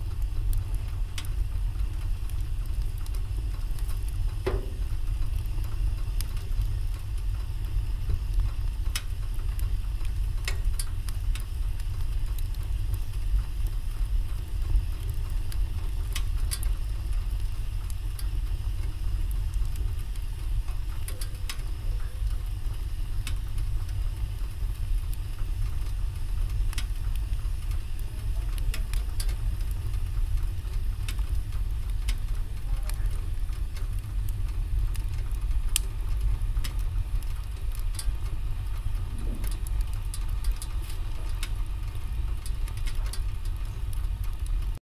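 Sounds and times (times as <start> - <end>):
low rumble: 0.0 - 44.8
wood fire crackling and popping: 0.0 - 44.8.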